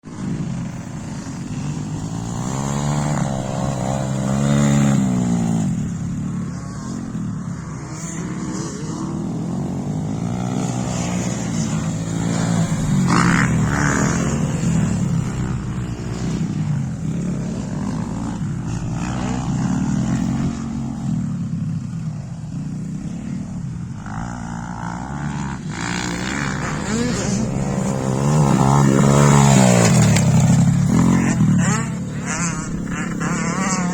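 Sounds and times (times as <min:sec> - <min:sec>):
motorbike engine revving: 0:00.1 - 0:33.9.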